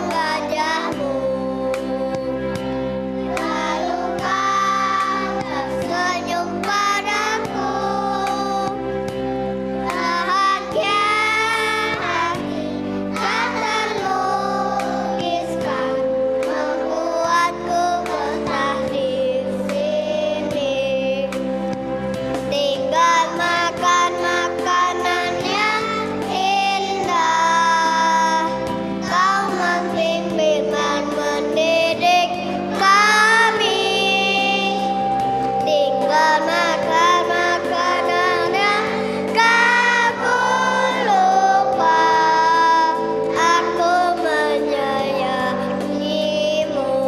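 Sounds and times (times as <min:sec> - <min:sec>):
children's choir singing: 0:00.0 - 0:21.4, 0:22.5 - 0:47.0
instrumental backing music: 0:00.0 - 0:47.0.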